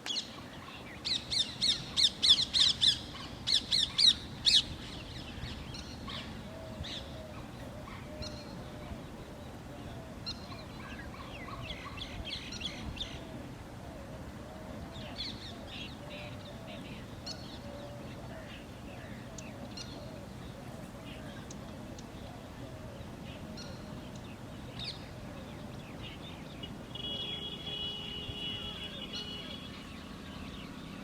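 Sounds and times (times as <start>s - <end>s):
birds chirping: 0.0s - 13.4s, 14.2s - 31.0s
lower repeated bird calls: 0.0s - 31.0s.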